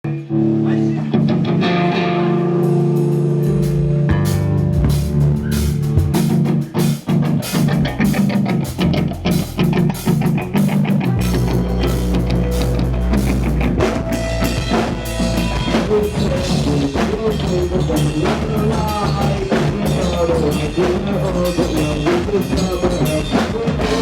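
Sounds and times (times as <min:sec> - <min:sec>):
electric guitar: 0:00.0 - 0:24.0
drum kit beat: 0:02.4 - 0:24.0.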